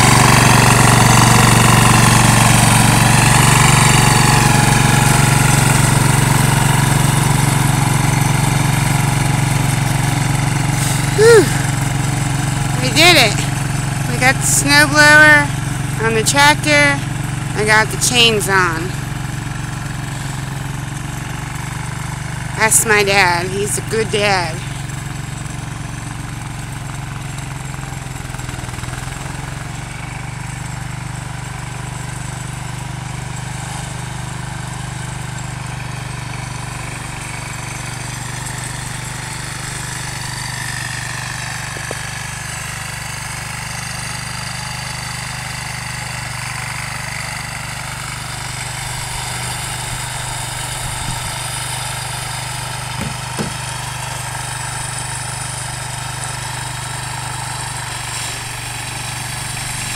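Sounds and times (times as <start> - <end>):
distant tractor engine hum: 0.0 - 59.9.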